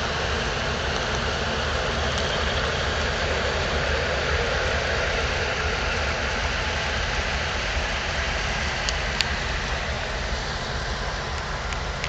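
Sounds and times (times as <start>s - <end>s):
ship rumble and hiss: 0.0s - 12.0s.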